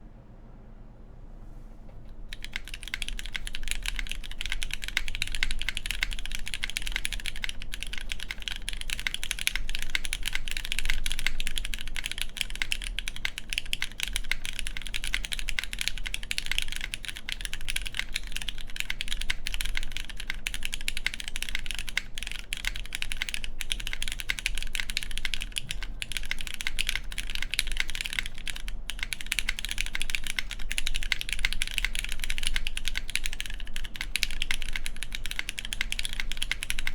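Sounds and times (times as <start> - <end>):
mechanical keyboard typing: 2.1 - 36.9.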